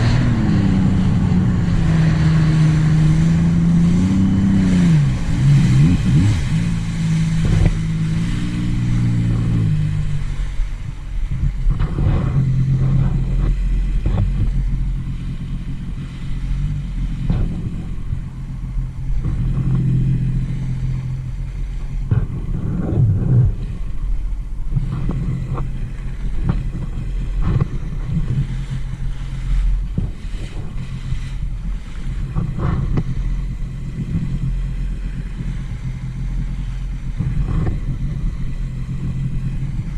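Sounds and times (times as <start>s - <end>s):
personal watercraft engine: 0.0s - 39.9s.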